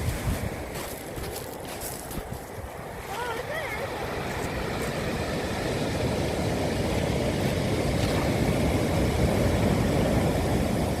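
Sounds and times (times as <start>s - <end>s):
sea surf breaking on shore: 0.0s - 11.0s.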